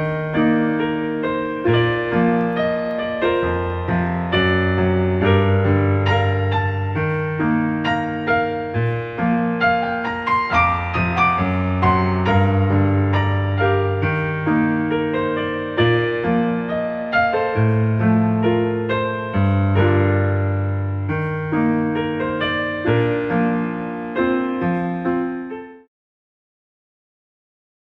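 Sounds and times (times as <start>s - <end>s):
gentle piano music: 0.0s - 25.9s.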